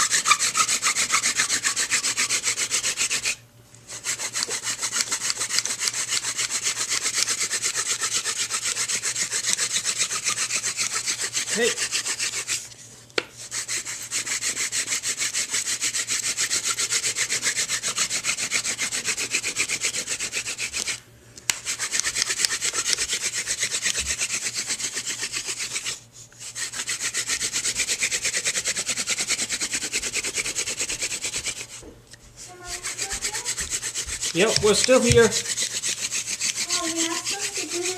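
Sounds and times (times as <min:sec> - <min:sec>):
hand drill rubbing on fireboard: 0:00.0 - 0:37.9.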